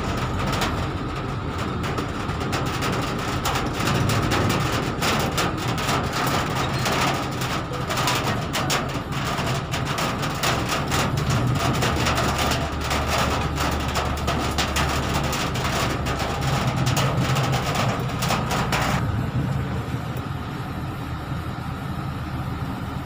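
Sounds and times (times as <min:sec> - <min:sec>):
raindrops spattering on windshield: 0:00.0 - 0:21.1
deeper hum: 0:00.0 - 0:23.0
vehicle engine low hum: 0:00.0 - 0:23.0
water and rain washing: 0:00.0 - 0:23.0.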